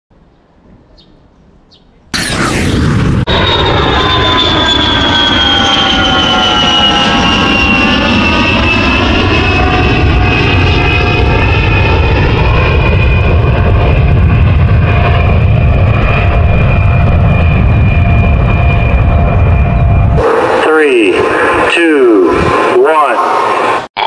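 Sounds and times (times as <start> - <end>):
aircraft engine whine: 0.2 - 24.0.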